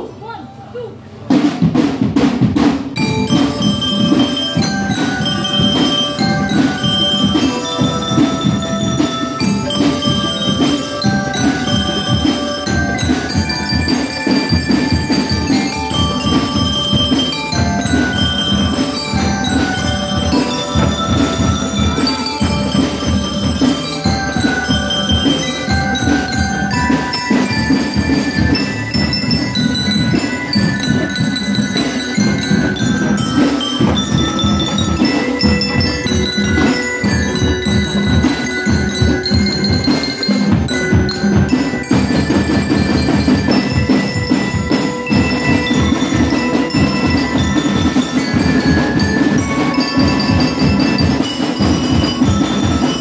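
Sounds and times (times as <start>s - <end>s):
marching drums: 1.2s - 53.0s
mallet bells melody: 2.9s - 53.0s.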